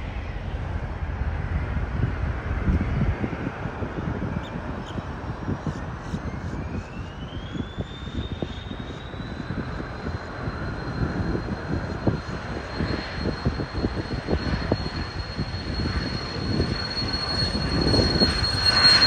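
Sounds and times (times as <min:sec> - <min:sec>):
jet engines whining: 0:00.0 - 0:19.0
low rumble: 0:00.0 - 0:19.0.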